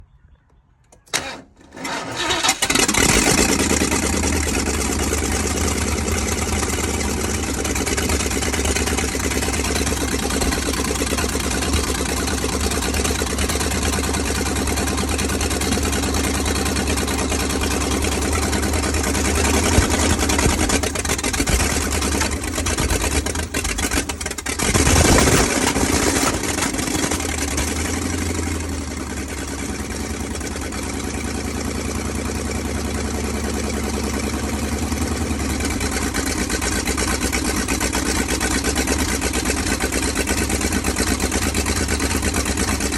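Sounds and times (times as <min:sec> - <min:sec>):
engine starting and running: 0:00.8 - 0:42.9.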